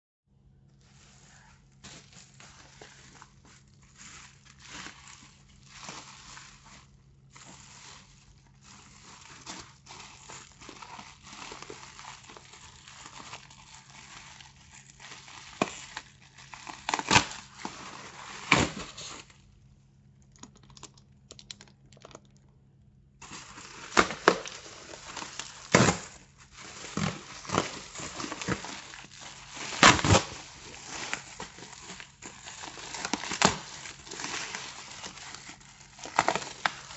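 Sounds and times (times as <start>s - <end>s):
faint steady hum: 0.3s - 36.9s
packaging crinkling and rustling: 0.6s - 22.5s, 23.2s - 36.9s.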